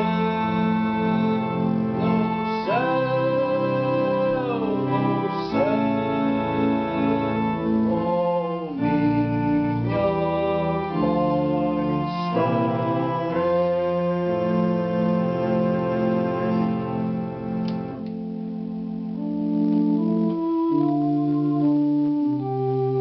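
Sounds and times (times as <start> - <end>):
electronic organ playing a hymn: 0.0 - 23.0.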